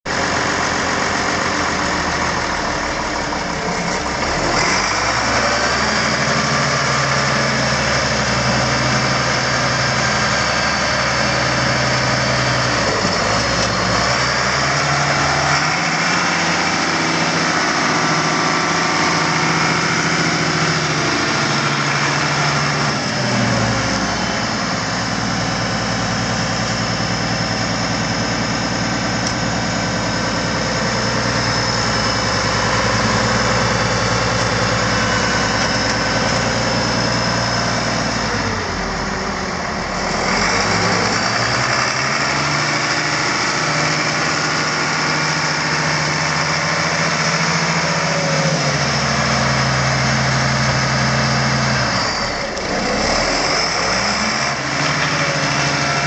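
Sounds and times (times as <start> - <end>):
diesel engine running: 0.1 - 56.0.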